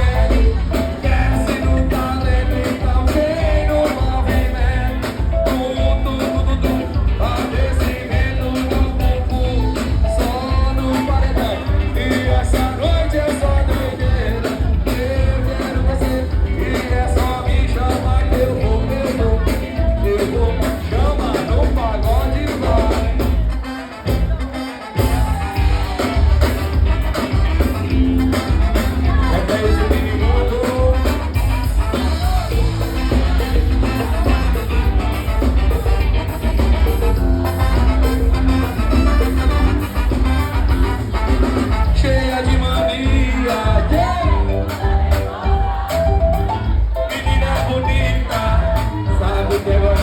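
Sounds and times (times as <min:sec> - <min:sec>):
band playing song with singer: 0:00.0 - 0:50.0.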